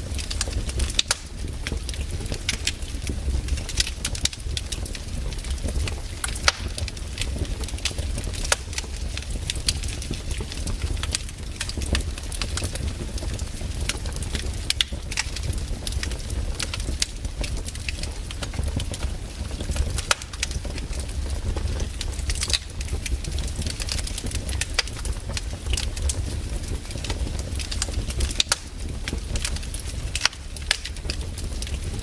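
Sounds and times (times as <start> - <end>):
campfire crackling and popping: 0.0 - 32.0
fire low rumble: 0.0 - 32.0.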